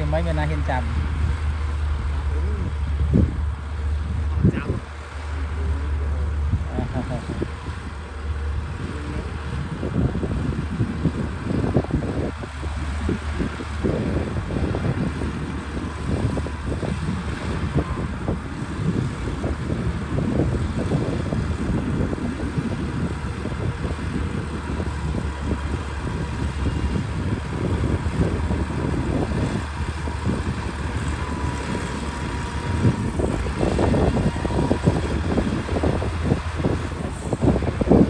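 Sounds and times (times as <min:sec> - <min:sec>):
bulldozer diesel engine rumble: 0:00.0 - 0:38.0.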